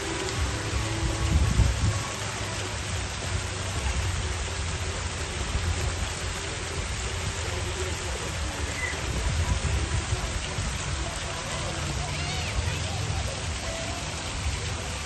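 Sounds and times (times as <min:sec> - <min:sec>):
fountain jets splashing water: 0:00.0 - 0:15.0.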